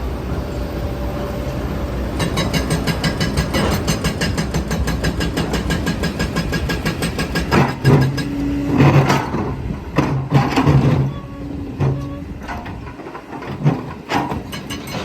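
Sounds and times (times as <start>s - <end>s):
diesel excavator engine clattering: 0.0s - 15.0s.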